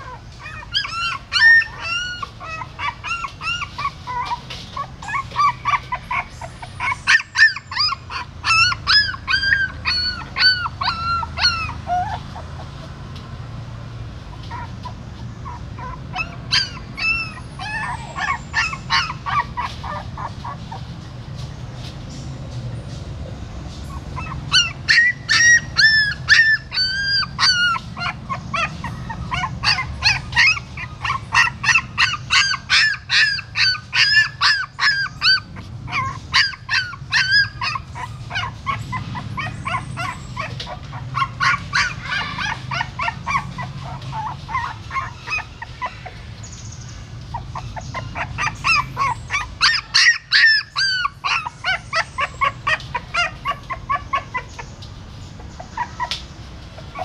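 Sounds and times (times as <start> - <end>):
puppies whining and squealing: 0.0 - 13.1, 14.2 - 22.0, 23.8 - 57.0.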